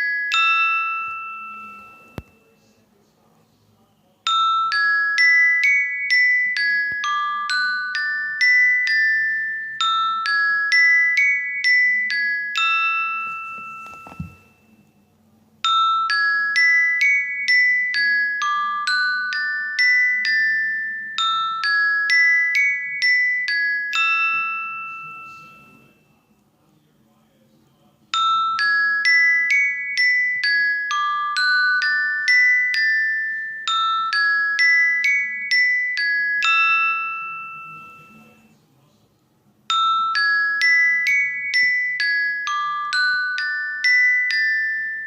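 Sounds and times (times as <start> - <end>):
twinkling bell chime: 0.0 - 2.7, 4.3 - 26.4, 28.2 - 38.6, 39.7 - 45.0.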